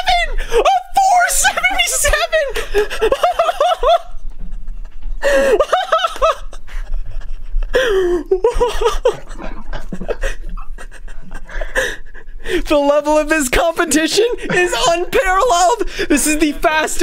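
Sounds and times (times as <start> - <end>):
person laughing excitedly: 0.0 - 12.7, 14.0 - 17.0.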